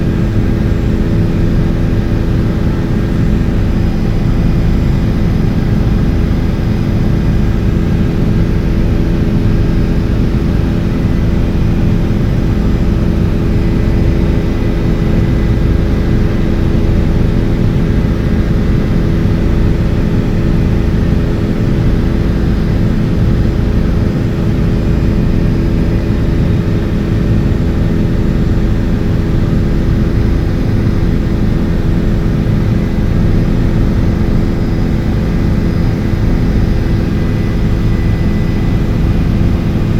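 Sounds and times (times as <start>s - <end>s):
helicopter engine and rotor drone: 0.0s - 39.9s
steady hum tones: 0.0s - 39.9s.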